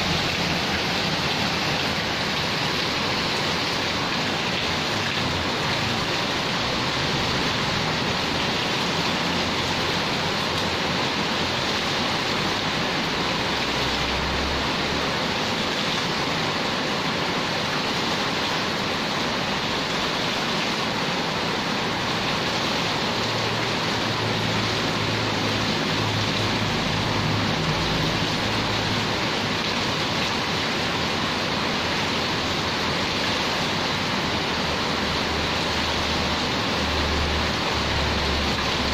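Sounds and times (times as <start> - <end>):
heavy rain on concrete: 0.0 - 38.9.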